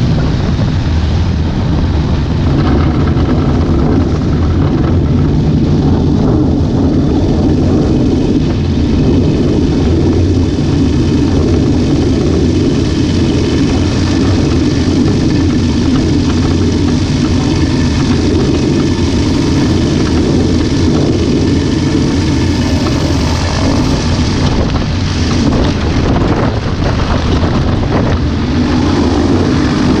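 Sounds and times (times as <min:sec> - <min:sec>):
aircraft engine and propeller: 0:00.0 - 0:30.0
wind noise: 0:00.0 - 0:30.0.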